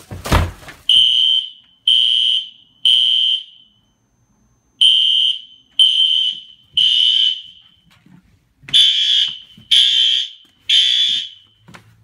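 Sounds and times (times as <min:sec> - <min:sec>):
fire alarm horn blasts: 0:00.9 - 0:07.9, 0:08.7 - 0:11.6.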